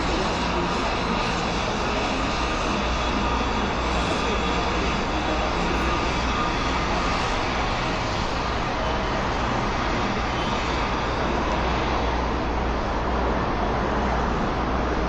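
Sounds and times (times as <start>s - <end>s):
busy street traffic: 0.0s - 15.0s.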